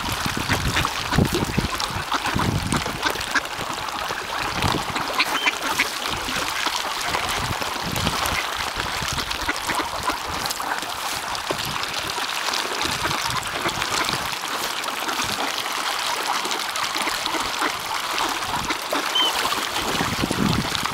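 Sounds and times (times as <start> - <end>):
ducks splashing in water: 0.0 - 20.9.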